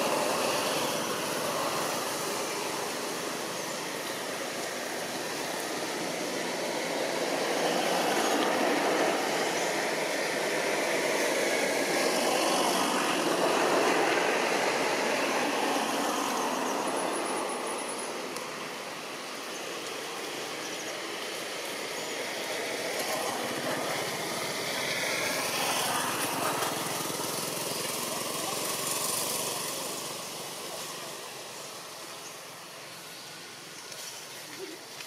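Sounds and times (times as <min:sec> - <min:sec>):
passing motor traffic: 0:00.0 - 0:35.0.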